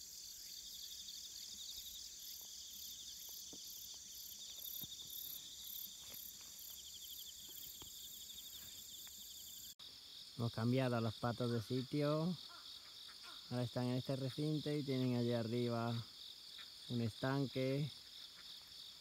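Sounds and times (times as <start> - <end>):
slower pulsing insect beat: 0.0 - 19.0.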